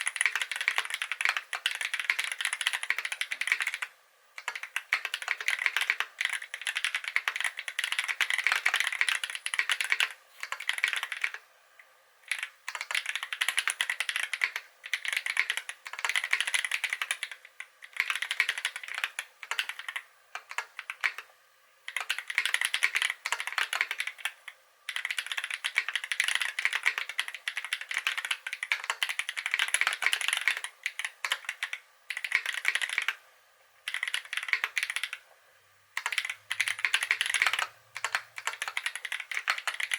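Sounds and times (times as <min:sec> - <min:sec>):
mechanical keyboard typing: 0:00.0 - 0:11.4, 0:12.3 - 0:21.3, 0:21.9 - 0:33.2, 0:33.8 - 0:35.2, 0:36.0 - 0:39.9.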